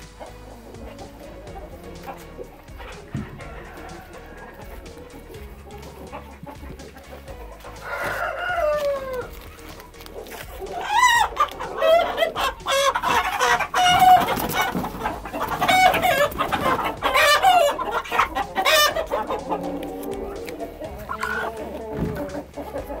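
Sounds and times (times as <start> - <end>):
chickens squawking and clucking: 0.0 - 23.0.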